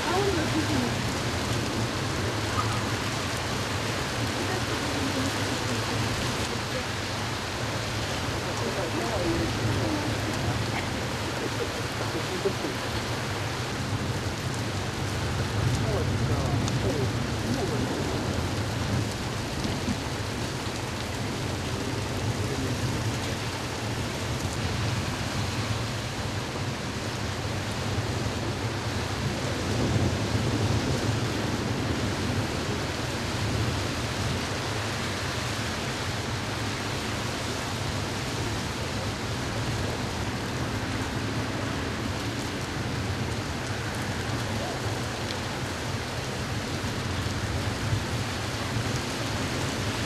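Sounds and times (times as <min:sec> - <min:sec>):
heavy rain on pavement: 0:00.0 - 0:50.0.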